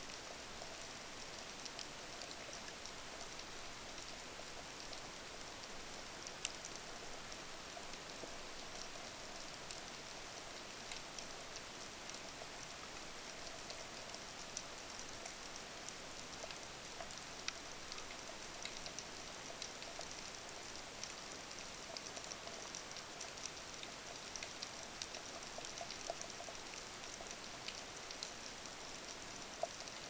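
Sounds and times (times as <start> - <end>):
sharp underwater clicks and crackles: 0.1 - 30.0.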